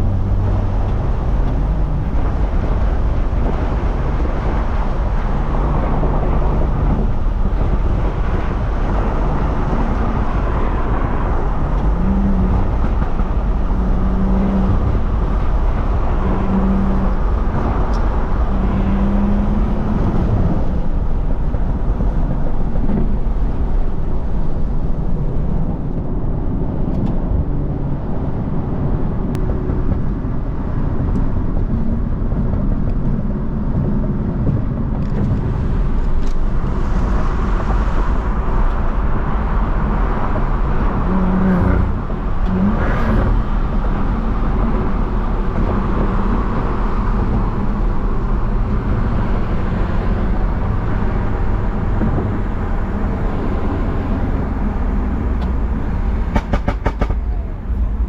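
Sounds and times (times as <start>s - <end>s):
road noise: 0.0s - 58.0s
turbocharged car engine: 0.0s - 58.0s.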